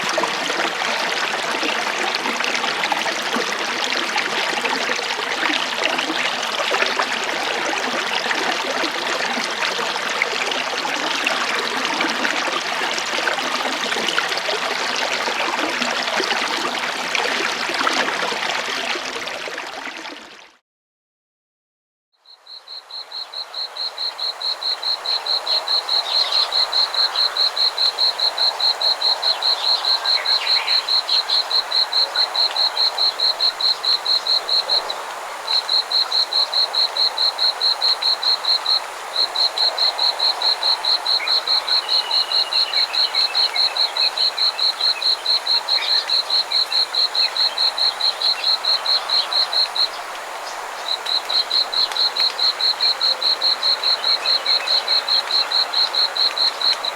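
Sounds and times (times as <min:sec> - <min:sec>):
chorus of frogs and insects: 0:00.0 - 0:20.2, 0:22.2 - 0:56.9.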